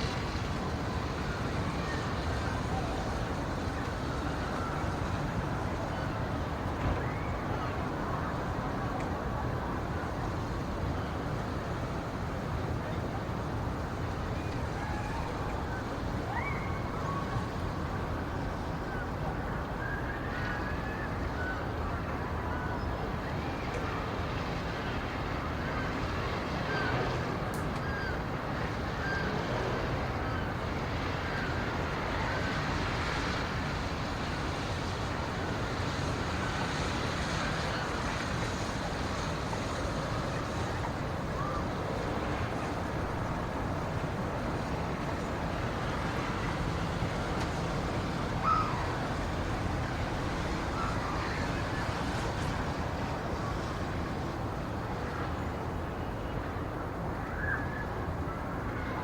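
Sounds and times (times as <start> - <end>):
steady rushing ambient noise: 0.0 - 59.0.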